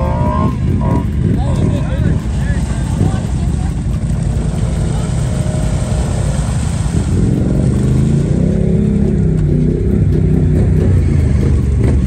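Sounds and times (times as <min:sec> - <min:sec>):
quad engine revving hard: 0:00.0 - 0:12.0.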